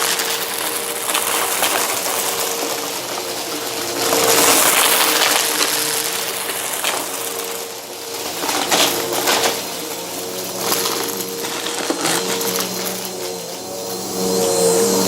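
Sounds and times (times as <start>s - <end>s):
brushroll crunching debris: 0.0s - 14.7s
vacuum cleaner hum: 0.0s - 15.0s.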